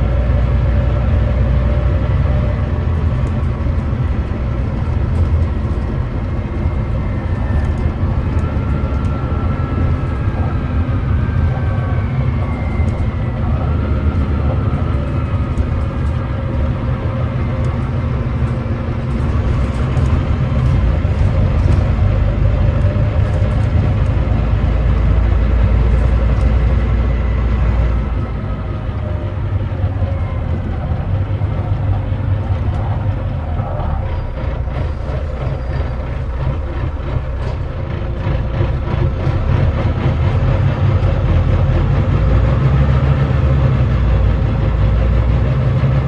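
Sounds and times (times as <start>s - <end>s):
bus diesel engine rumbling: 0.0s - 46.0s.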